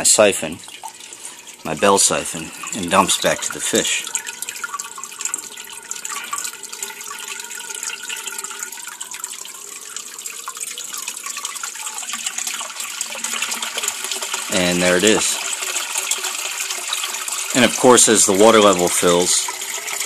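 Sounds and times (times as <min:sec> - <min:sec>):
water stream splashing into tank: 0:00.0 - 0:20.0.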